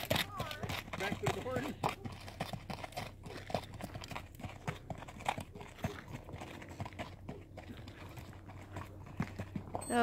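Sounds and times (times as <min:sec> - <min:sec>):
horse hooves clopping: 0:00.0 - 0:10.0.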